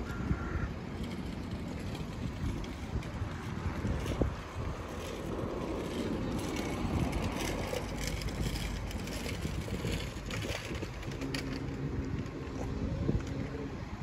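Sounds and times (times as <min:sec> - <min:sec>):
road traffic passing: 0:00.0 - 0:14.0
steady engine hum: 0:00.0 - 0:14.0
wind on microphone: 0:00.0 - 0:14.0.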